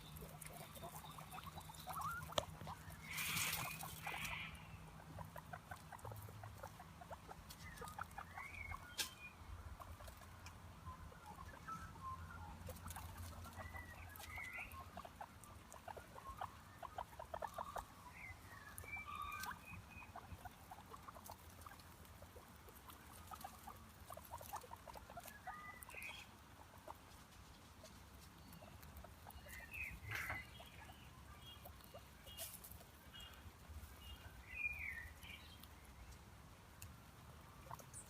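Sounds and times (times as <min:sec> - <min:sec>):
marmot chirps: 0:00.0 - 0:27.0, 0:28.4 - 0:35.7.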